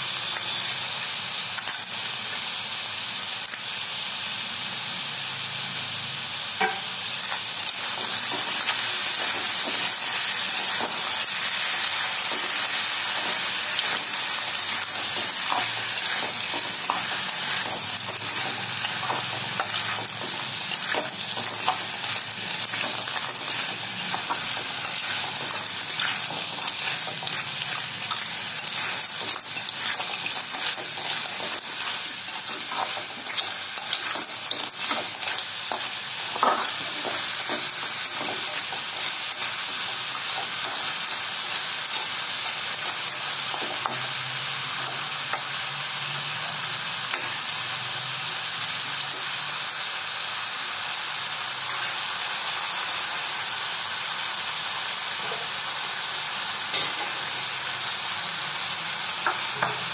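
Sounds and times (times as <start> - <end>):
snails sizzling in hot oil: 0.0 - 59.9.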